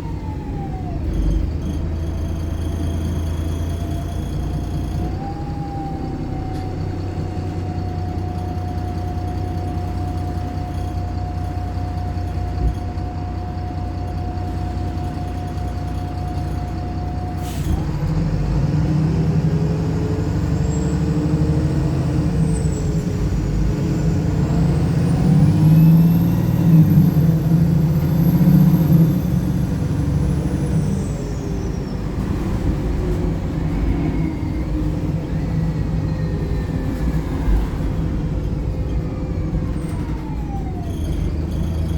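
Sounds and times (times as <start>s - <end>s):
bus diesel engine: 0.0s - 41.9s.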